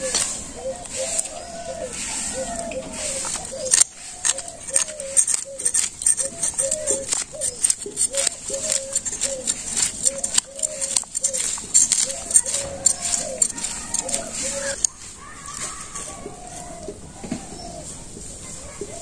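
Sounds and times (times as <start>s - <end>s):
knife scraping fish scales: 0.0s - 16.0s.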